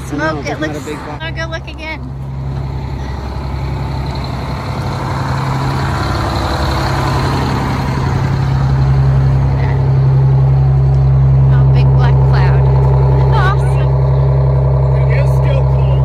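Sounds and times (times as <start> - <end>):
diesel bus engine droning: 0.0 - 16.0.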